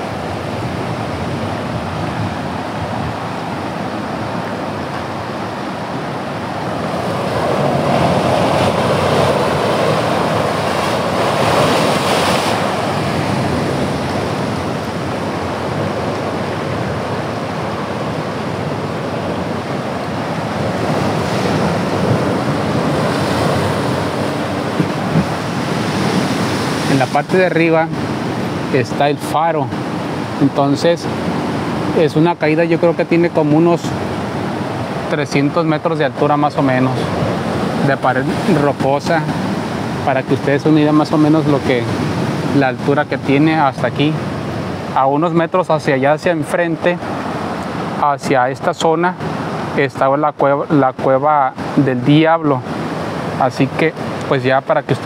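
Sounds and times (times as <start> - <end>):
ocean surf on rocks: 0.0 - 55.0.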